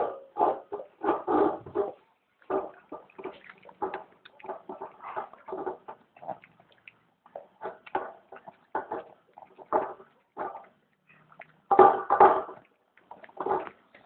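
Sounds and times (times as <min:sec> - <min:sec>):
dog chewing and lapping food: 0:00.0 - 0:14.0.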